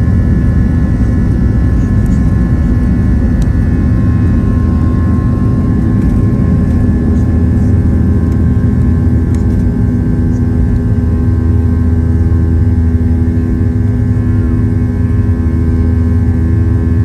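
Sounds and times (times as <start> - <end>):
jet engine cabin drone: 0.0 - 17.0.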